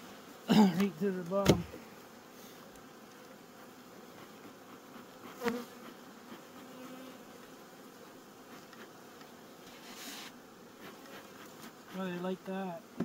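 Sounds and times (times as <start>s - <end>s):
bee smoker puff hiss: 0.0s - 13.0s
honey bees buzzing: 0.0s - 13.0s.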